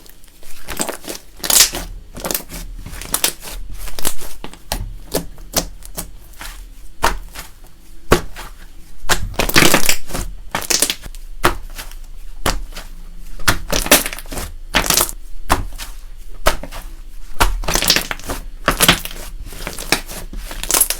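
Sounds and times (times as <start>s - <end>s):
slime squishing and crunching: 0.0s - 20.9s.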